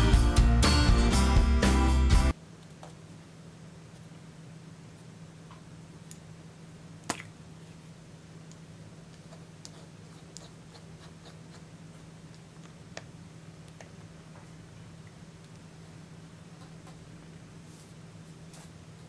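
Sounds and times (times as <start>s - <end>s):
low steady hum: 2.3s - 19.0s.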